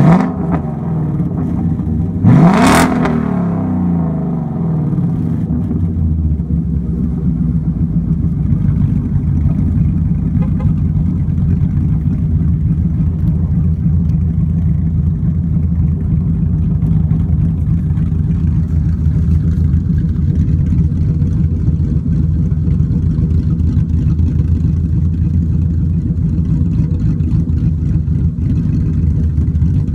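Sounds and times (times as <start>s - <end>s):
loud car engine idling: 0.0s - 29.9s.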